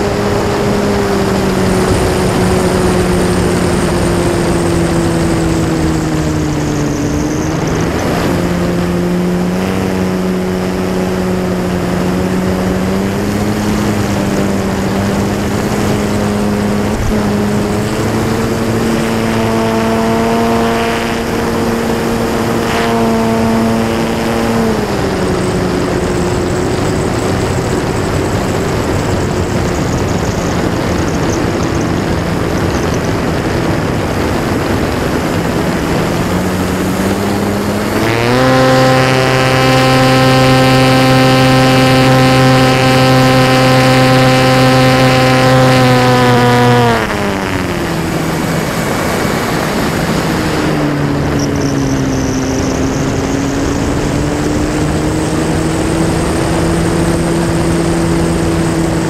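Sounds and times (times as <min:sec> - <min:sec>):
airflow rushing over microphone: 0:00.0 - 0:59.0
model plane motor buzzing: 0:00.0 - 0:59.0.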